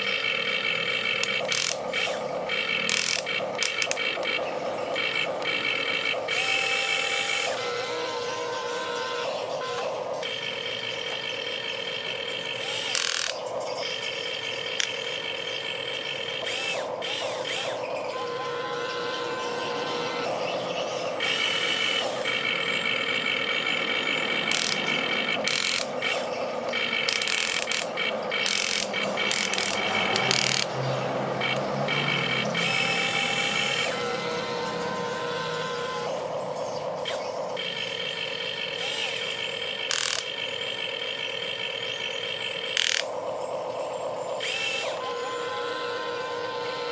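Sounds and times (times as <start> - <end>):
electric gear motors whining: 0.0 - 46.9.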